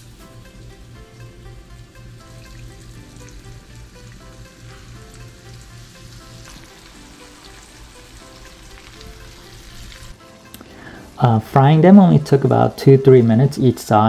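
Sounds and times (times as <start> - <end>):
fish sizzling in frying oil: 0.0 - 11.4
background music: 0.0 - 14.0.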